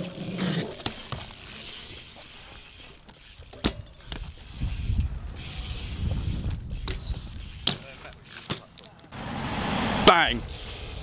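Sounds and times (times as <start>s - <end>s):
bike tyres rumbling on concrete: 0.0s - 9.2s.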